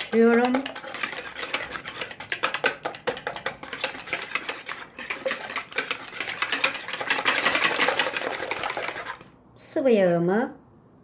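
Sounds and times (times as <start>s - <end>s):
whisk clicking against bowl: 0.0s - 9.3s.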